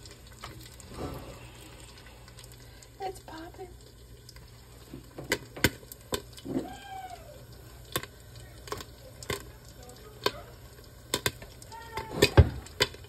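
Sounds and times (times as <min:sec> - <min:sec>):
popcorn popping in a pan: 0:00.0 - 0:13.0.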